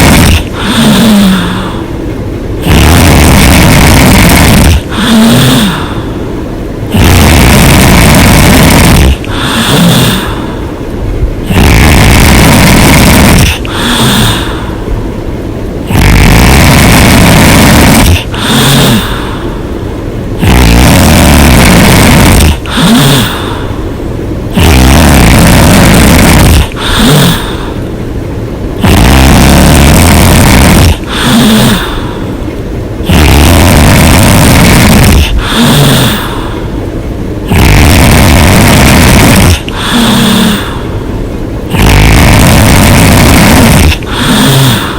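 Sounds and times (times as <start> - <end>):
woman snoring loudly: 0.0 - 1.9, 2.6 - 6.2, 6.9 - 10.6, 11.4 - 14.8, 15.8 - 19.5, 20.4 - 23.8, 24.5 - 27.9, 28.8 - 32.3, 33.0 - 36.6, 37.5 - 41.0, 41.7 - 44.9.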